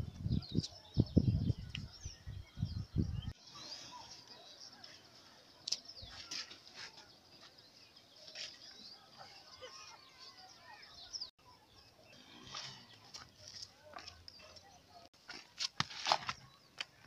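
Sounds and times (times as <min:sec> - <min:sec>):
wild birds chirping: 0:00.0 - 0:15.1
faint outdoor background noise: 0:00.0 - 0:17.0.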